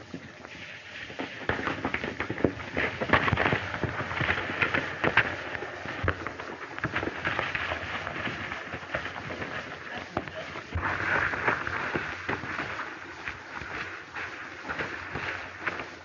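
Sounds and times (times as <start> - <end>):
horse hoofbeats on dirt: 1.2 - 16.0.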